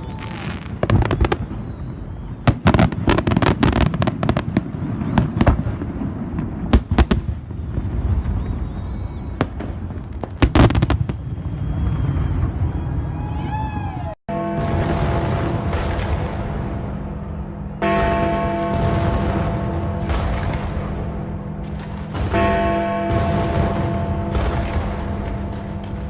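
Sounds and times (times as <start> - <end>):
fireworks banging and crackling: 0.0 - 26.0.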